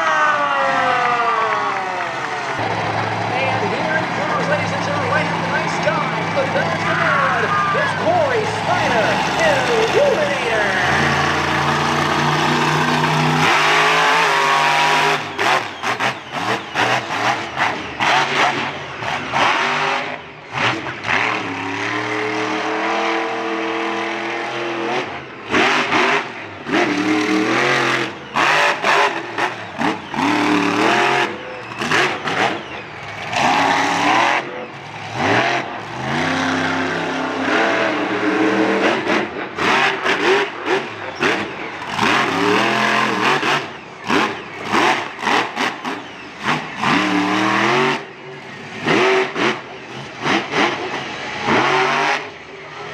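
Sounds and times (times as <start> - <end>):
monster truck engine revving: 0.0 - 52.9.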